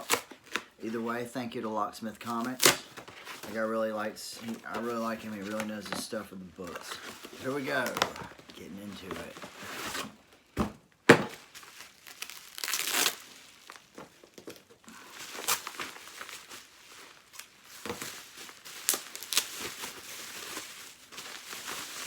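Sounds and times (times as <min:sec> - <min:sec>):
wrapping crinkling and tearing: 0:00.0 - 0:01.2, 0:02.2 - 0:10.5, 0:11.3 - 0:22.0.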